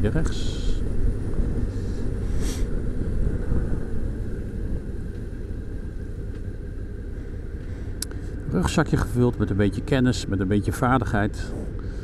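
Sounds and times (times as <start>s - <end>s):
road and wind noise: 0.0s - 12.0s
vehicle engine rumble: 0.0s - 12.0s.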